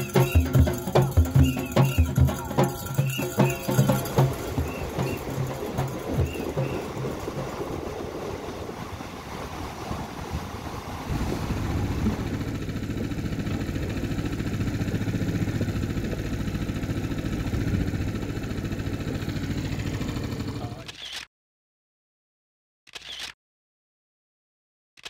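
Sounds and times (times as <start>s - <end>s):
irregular rushing noise: 0.0s - 20.8s
small outboard motor running: 0.0s - 21.0s.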